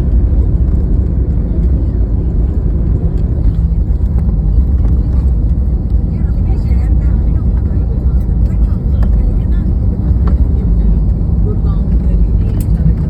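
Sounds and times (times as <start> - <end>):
jet cabin low rumble: 0.0 - 13.0.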